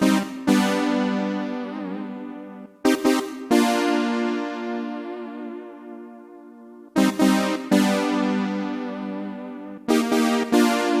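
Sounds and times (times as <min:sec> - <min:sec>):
synthesizer chord: 0:00.0 - 0:11.0.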